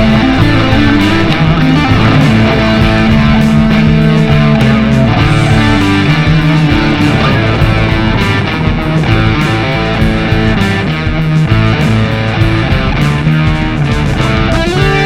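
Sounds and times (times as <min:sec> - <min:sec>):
rock music with electric guitar: 0:00.0 - 0:15.0.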